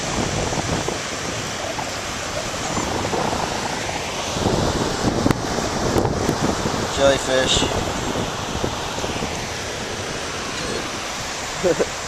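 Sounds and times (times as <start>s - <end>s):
surf washing onto beach: 0.0s - 12.0s
wind buffeting microphone: 0.0s - 12.0s.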